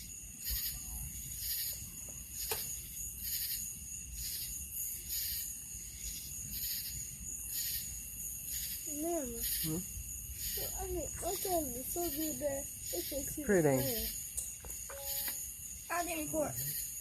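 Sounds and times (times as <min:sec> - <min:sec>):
insects trilling: 0:00.0 - 0:17.0
pulsing insect call: 0:00.0 - 0:17.0.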